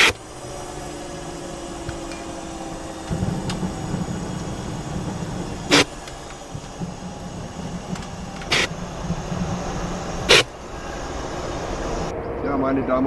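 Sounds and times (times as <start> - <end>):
sharp hissing bursts: 0.0 - 12.1
jet engine rumbling: 0.0 - 13.0.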